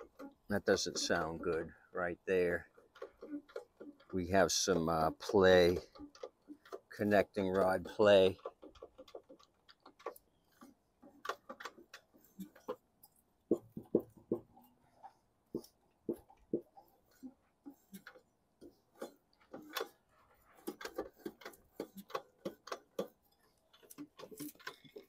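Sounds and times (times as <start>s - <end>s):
lawn mower engine clicking and knocking: 0.0s - 25.0s.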